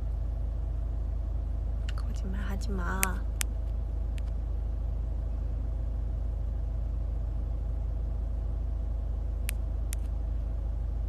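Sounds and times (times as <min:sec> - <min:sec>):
car engine rumble inside cabin: 0:00.0 - 0:11.0
faint steady hum: 0:00.0 - 0:11.0.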